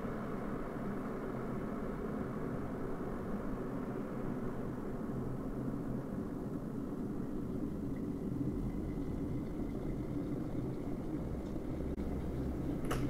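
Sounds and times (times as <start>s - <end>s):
faint high whine: 0.0s - 13.0s
kettle water rumbling and hissing: 0.0s - 13.0s.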